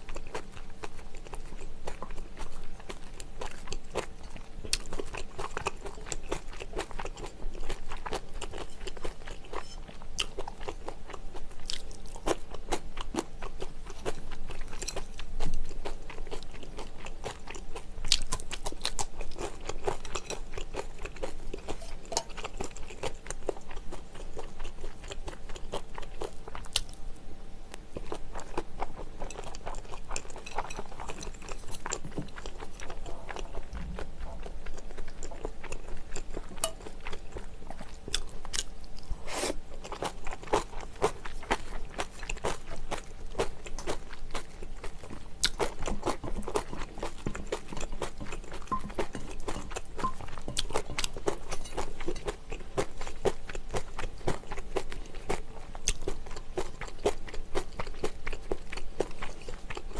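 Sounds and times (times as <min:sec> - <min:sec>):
chewing and crunching: 0:00.0 - 0:27.0, 0:27.7 - 0:59.9.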